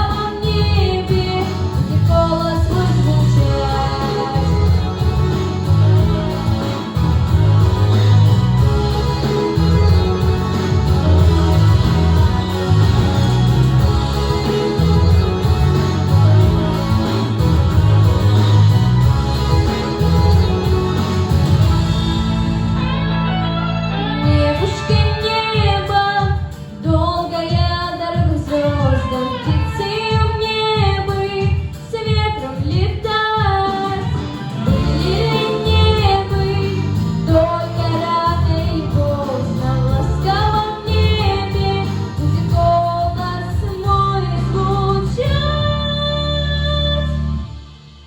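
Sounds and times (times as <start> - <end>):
girl singing pop song: 0.0 - 17.0, 23.9 - 47.5
backing track with steady beat: 0.0 - 48.0.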